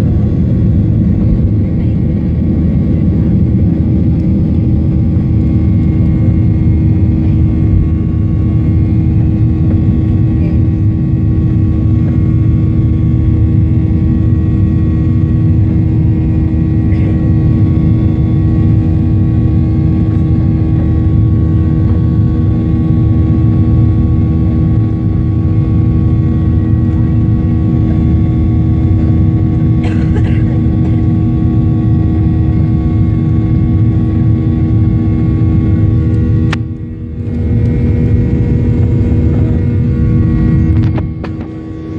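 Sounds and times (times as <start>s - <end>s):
jet engines at high power: 0.0s - 41.9s.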